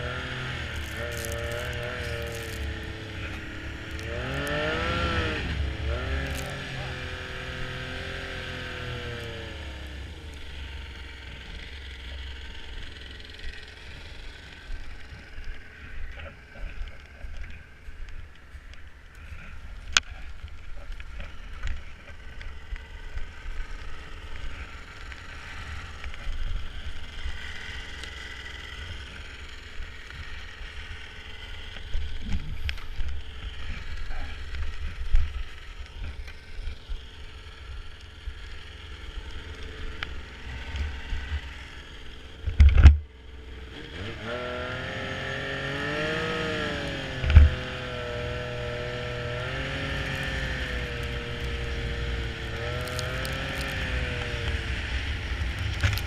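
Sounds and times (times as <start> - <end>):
snowmobile engine rumbling: 0.0 - 56.0.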